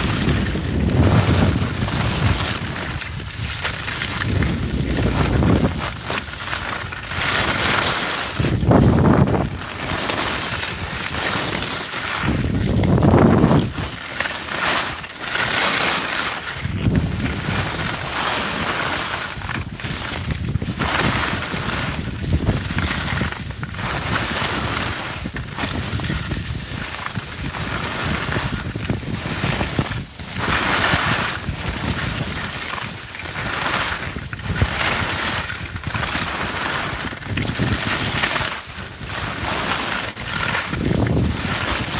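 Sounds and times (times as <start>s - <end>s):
wind buffeting microphone: 0.0s - 14.0s, 16.5s - 18.7s, 19.3s - 39.6s, 40.2s - 41.9s
skis scraping on snow: 0.0s - 41.9s.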